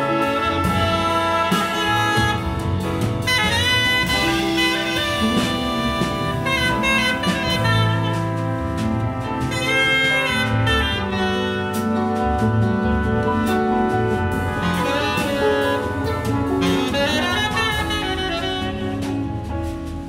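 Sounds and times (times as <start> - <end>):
tenor saxophone melody: 0.0 - 19.8
big band jazz: 0.0 - 20.0.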